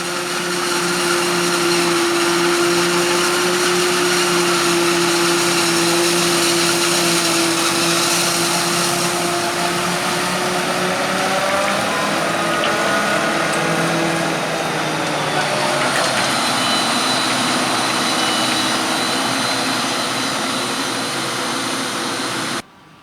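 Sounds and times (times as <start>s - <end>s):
forage harvester whine: 0.0s - 22.6s
harvester hum: 0.0s - 22.6s.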